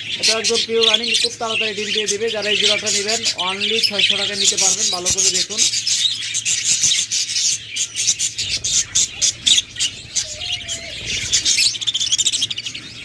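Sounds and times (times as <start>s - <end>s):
budgerigars chattering and chirping: 0.0s - 13.0s.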